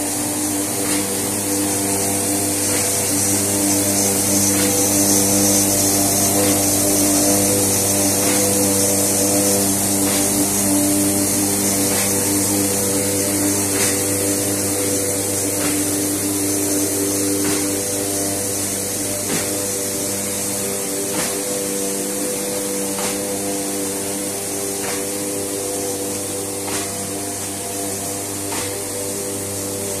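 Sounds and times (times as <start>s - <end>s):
corrugation machine droning: 0.0s - 30.0s.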